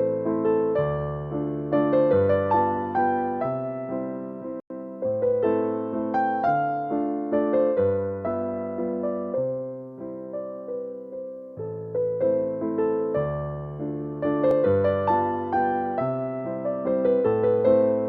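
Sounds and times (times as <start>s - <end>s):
electric piano music: 0.0s - 18.0s.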